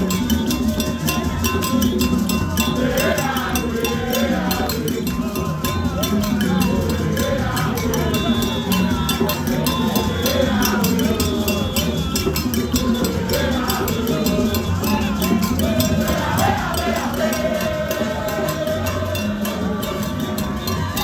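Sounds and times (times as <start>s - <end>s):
demonstrators singing: 0.0s - 21.0s
fast percussion beat: 0.0s - 21.0s.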